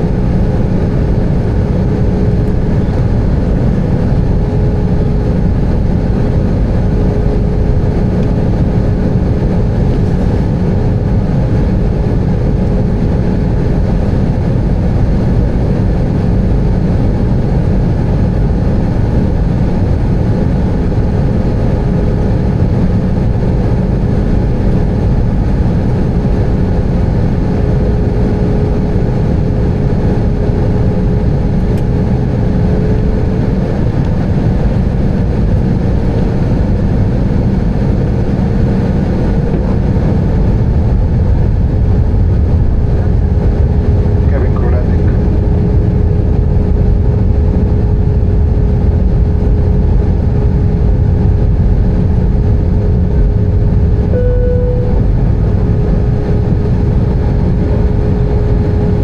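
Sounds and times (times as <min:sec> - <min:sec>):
aircraft engine and airflow rumble: 0:00.0 - 0:59.0
faint steady whine: 0:00.0 - 0:59.0.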